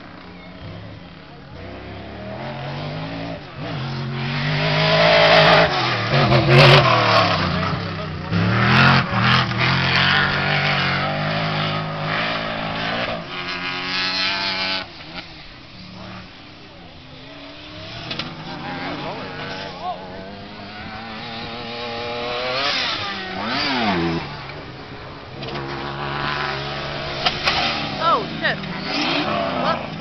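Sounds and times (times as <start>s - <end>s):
race truck engines revving: 0.0s - 30.0s.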